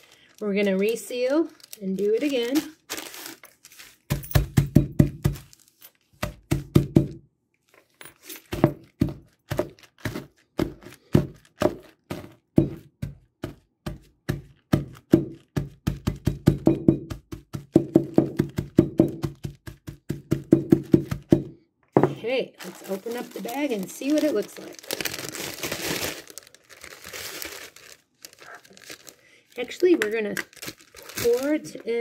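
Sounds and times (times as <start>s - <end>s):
mug pounding cookies in plastic bag: 0.4s - 7.2s, 8.4s - 32.0s.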